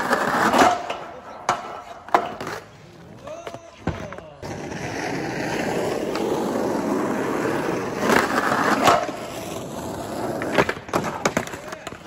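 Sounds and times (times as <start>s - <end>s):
skateboard grinding on curb: 0.0s - 3.2s, 4.4s - 12.0s
skateboard wheels rolling on concrete: 0.0s - 12.0s.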